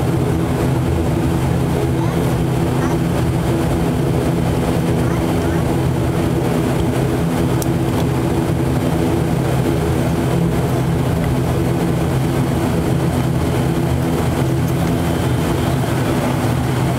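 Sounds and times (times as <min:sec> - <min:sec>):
turboprop engines droning: 0:00.0 - 0:16.9.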